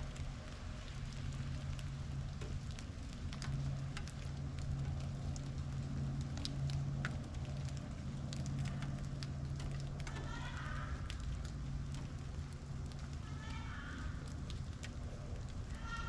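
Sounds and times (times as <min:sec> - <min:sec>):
light rain falling: 0:00.0 - 0:16.0
low steady hum: 0:00.0 - 0:16.0
raindrops ticking: 0:00.0 - 0:16.0.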